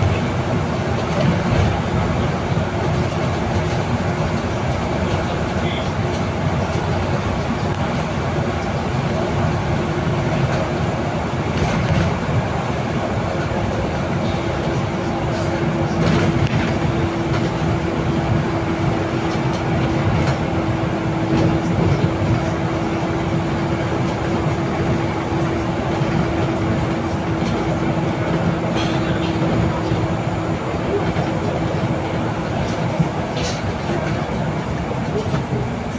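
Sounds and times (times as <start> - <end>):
bus drivetrain and tyre drone: 0.0 - 35.9.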